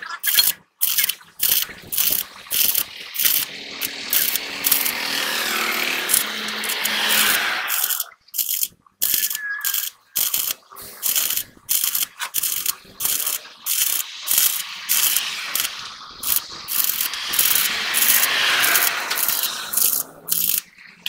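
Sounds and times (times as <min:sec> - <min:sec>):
scraping and crackling bursts: 0:00.0 - 0:21.0.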